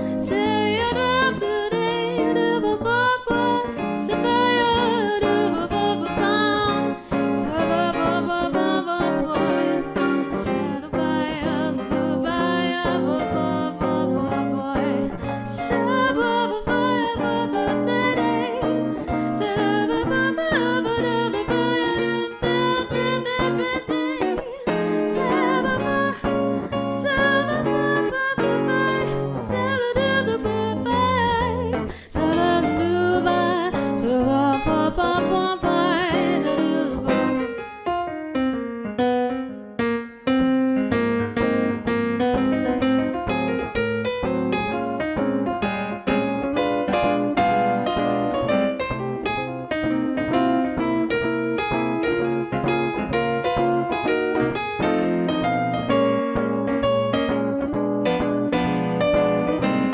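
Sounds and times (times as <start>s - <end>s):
swing guitar and piano music: 0.0s - 59.9s.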